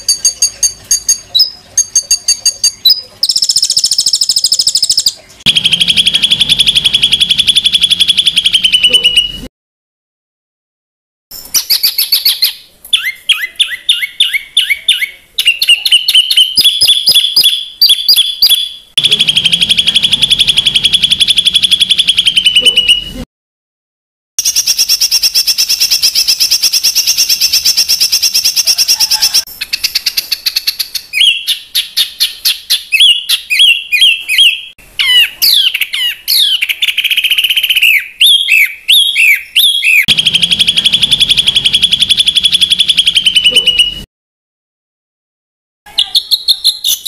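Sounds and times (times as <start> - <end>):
songbird trilling and whistling: 0.0 - 9.5, 11.4 - 23.2, 24.4 - 44.0, 45.9 - 47.0.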